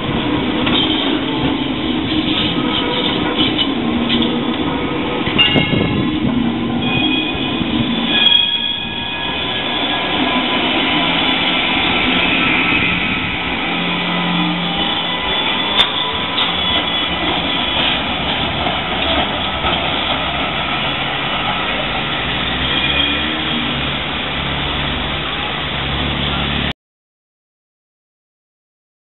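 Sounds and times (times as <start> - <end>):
tram passing close by: 0.0 - 26.7
tram rolling rumble: 0.0 - 26.7
tram wheels squealing: 0.0 - 26.7.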